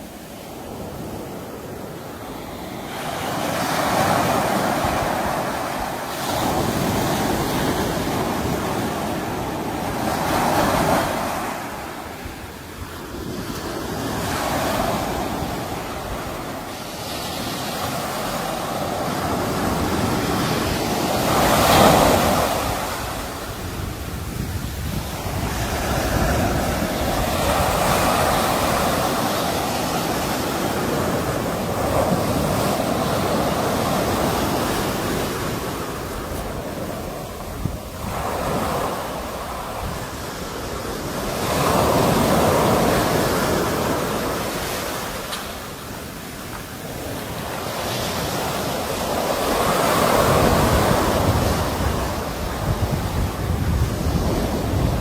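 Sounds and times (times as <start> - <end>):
sea waves breaking on shore: 0.0 - 55.0
wind buffeting microphone: 0.0 - 55.0.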